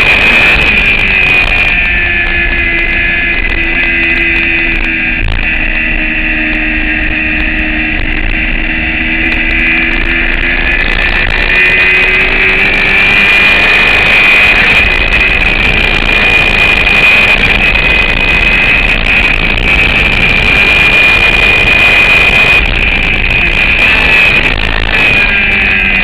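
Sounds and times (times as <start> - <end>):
motorcycle engine running hard: 0.0 - 26.0
wind rush: 0.0 - 26.0.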